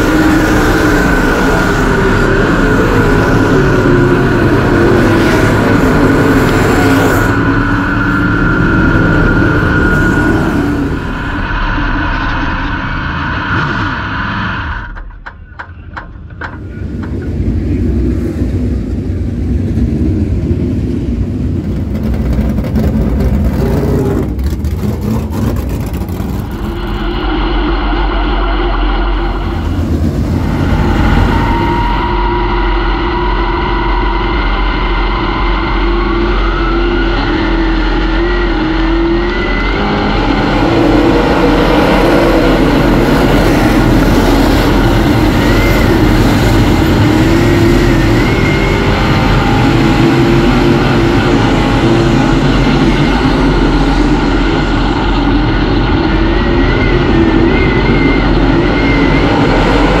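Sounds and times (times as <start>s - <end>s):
race car engines running hard: 0.0s - 60.0s.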